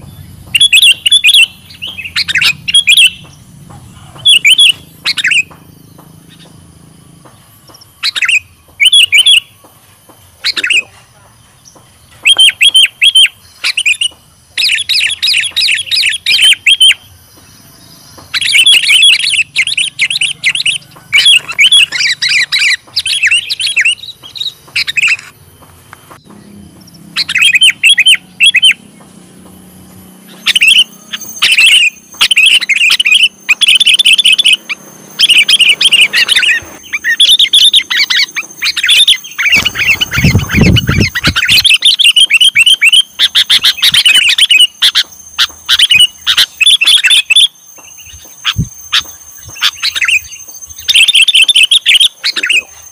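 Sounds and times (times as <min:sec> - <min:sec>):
bird chattering chirps: 0:00.0 - 0:52.9.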